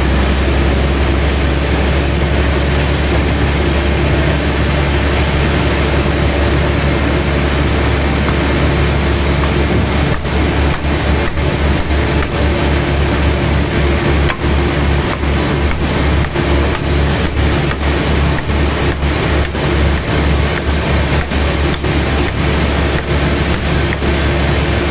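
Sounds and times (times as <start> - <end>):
sawmill machinery humming: 0.0 - 24.9.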